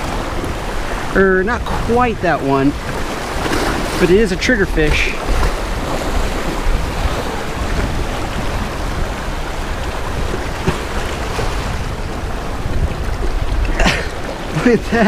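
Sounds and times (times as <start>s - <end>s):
small waves washing over rocks: 0.0s - 14.8s.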